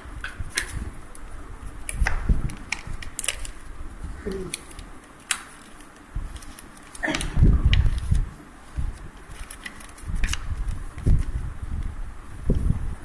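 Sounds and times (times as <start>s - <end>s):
paper crackling and creasing: 0.0s - 12.7s
paper handling rumble: 0.0s - 13.0s.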